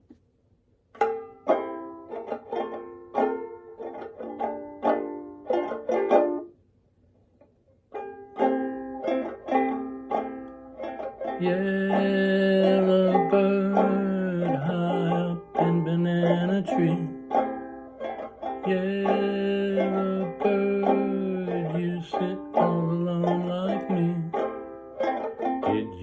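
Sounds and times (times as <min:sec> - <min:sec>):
plucked string melody: 0:00.8 - 0:26.0.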